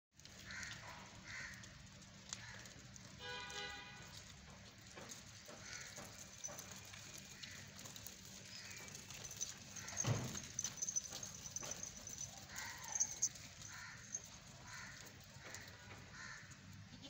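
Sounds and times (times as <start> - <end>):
hoof clicks on brick paving: 0.2 - 16.9.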